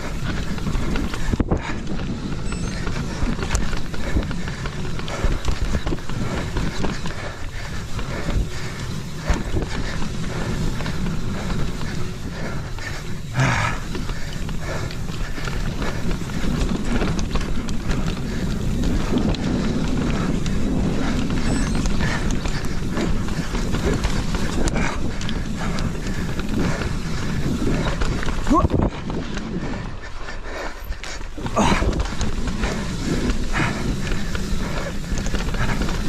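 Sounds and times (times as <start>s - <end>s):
bike rattling: 0.0s - 36.0s
bike tyres rolling on dirt: 0.0s - 36.0s
heavy panting breathing: 0.0s - 36.0s
wind buffeting microphone: 0.0s - 36.0s.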